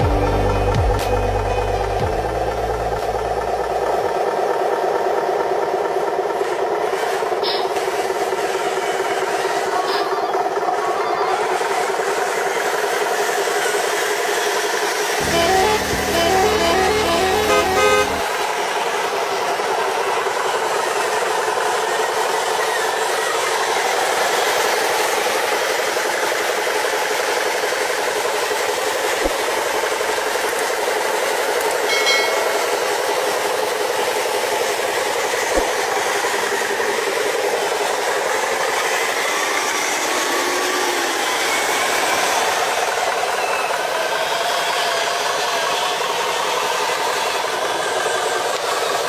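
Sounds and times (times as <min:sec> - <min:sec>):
toy truck motors whirring: 0:03.4 - 0:49.0.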